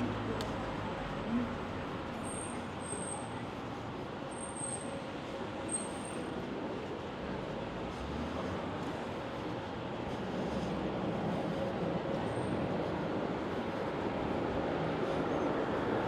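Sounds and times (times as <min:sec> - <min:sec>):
outdoor traffic noise: 0:00.0 - 0:16.0.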